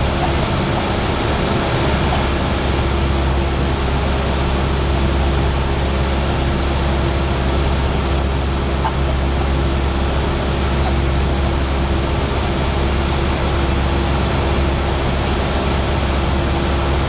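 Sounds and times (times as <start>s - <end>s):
plane engine and propeller drone: 0.0s - 17.0s.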